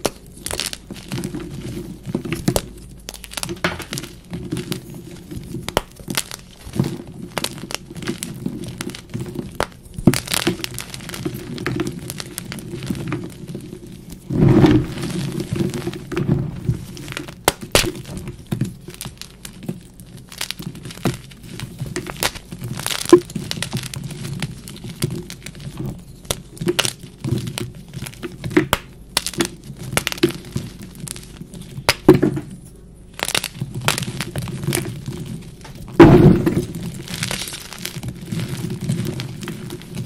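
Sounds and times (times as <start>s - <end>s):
chalk blocks crushed by hand: 0.0s - 13.5s, 14.3s - 32.5s, 33.2s - 40.0s.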